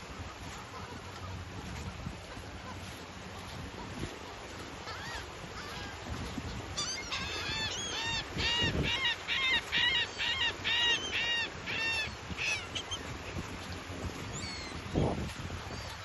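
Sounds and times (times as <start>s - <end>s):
gulls calling: 0.0s - 16.0s
surf: 0.0s - 16.0s
wind: 0.0s - 16.0s.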